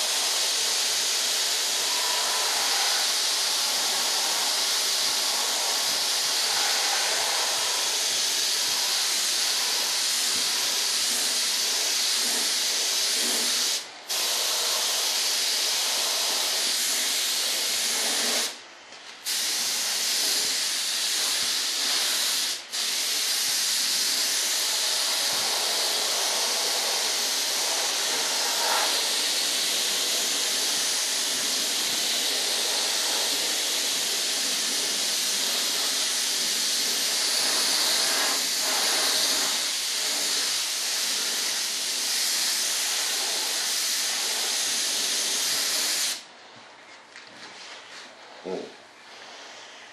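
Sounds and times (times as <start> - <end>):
spray gun hissing: 0.0 - 18.6, 19.2 - 46.3.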